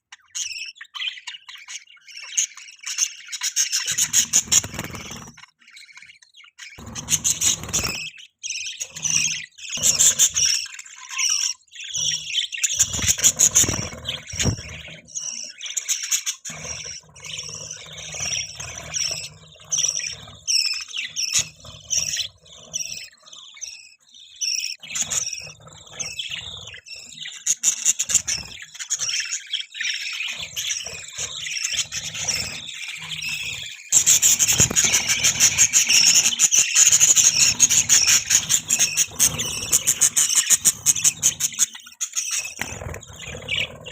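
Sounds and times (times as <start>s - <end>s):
budgerigars chattering: 0.1s - 43.9s.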